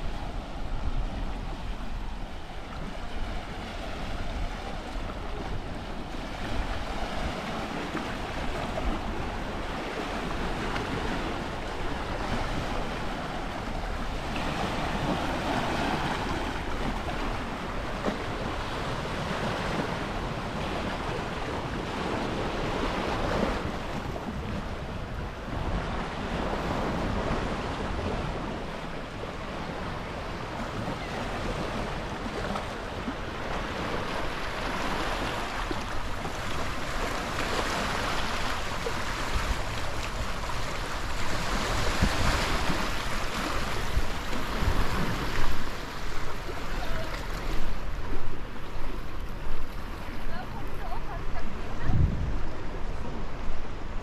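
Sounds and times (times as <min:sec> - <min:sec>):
sea waves washing onto shore: 0:00.0 - 0:54.0
wind rumbling on microphone: 0:00.0 - 0:54.0.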